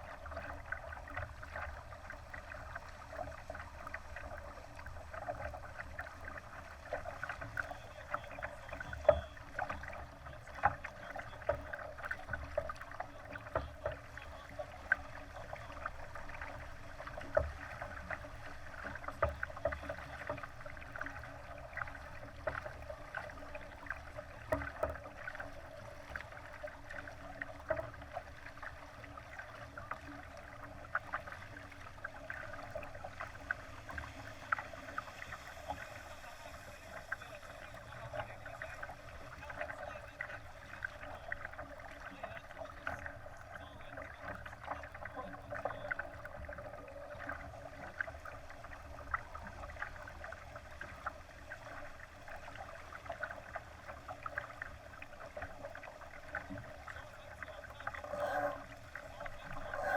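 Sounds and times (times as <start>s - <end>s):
water splashing against a hull: 0.0s - 59.9s.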